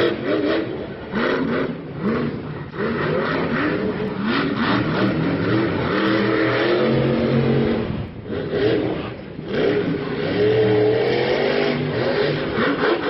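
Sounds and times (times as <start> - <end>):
vehicle engines revving: 0.0 - 13.0.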